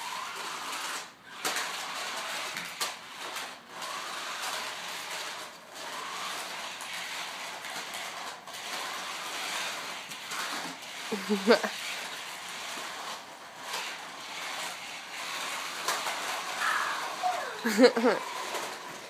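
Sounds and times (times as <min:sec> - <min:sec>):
toy car electric motors whirring: 0:00.0 - 0:19.0.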